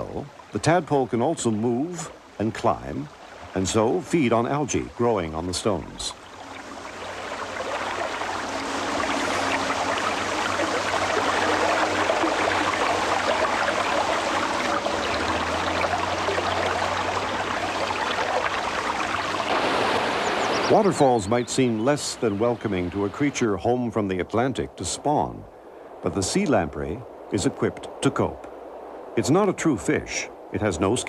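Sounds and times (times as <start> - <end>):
rushing churning water: 0.0 - 31.0.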